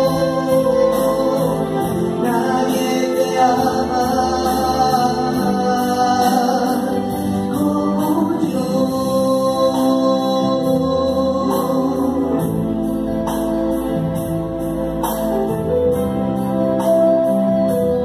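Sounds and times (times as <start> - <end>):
electronic keyboards with beat: 0.0 - 18.0.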